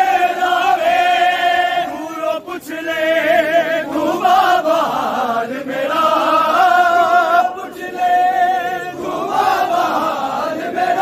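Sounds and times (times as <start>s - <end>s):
crowd chanting in chorus: 0.0s - 11.0s.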